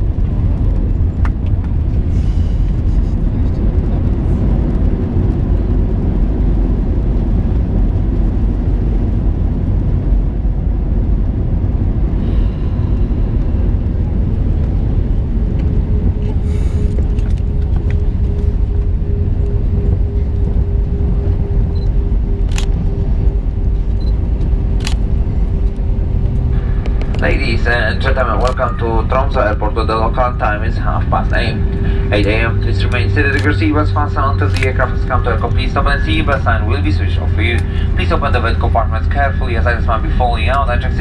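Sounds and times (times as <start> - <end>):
airplane cabin rumble: 0.0 - 41.0
steady hum: 0.0 - 41.0.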